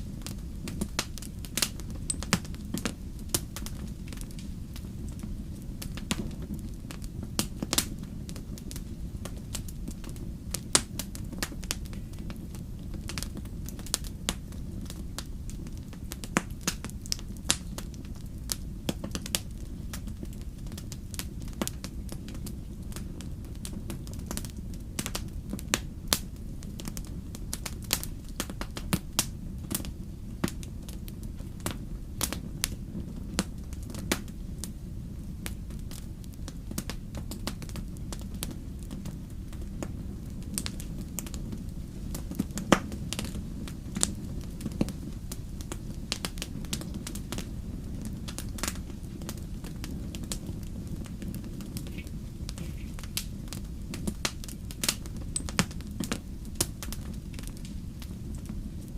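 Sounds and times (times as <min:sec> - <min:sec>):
fire popping and snapping: 0:00.0 - 0:58.9
low fire rumble: 0:00.0 - 0:58.9
wood fire crackling: 0:00.0 - 0:58.9.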